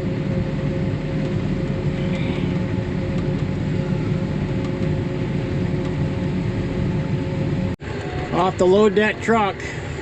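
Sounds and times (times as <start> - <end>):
constant machine whine: 0.0 - 10.0
harvester engine drone: 0.0 - 10.0.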